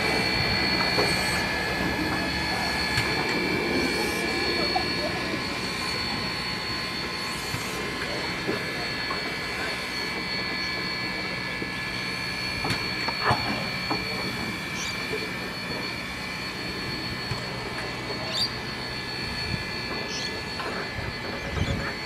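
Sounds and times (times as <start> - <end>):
high whine: 0.0 - 22.0
steam hissing: 0.0 - 22.0.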